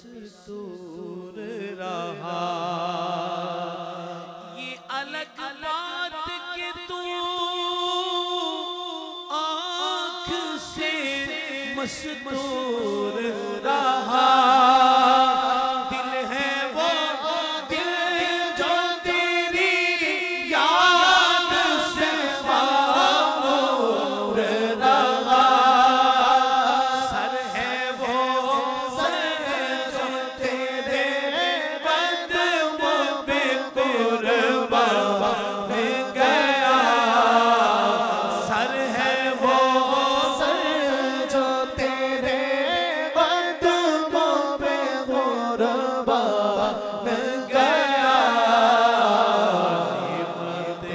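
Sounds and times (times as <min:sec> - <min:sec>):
lead male singer: 0:00.0 - 0:50.9.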